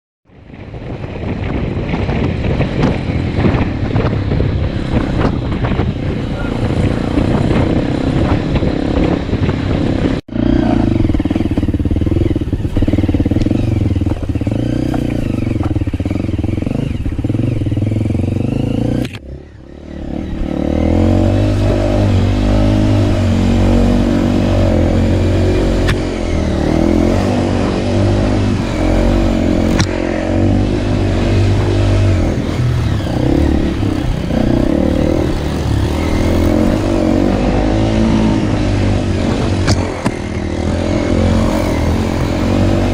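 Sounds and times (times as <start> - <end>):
dirt bike engine running: 0.3 - 42.9.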